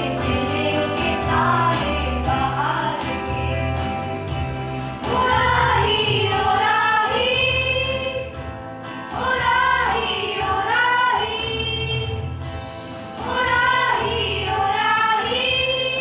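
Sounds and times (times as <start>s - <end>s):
children's choir singing: 0.0s - 4.2s, 5.0s - 12.2s, 13.0s - 16.0s.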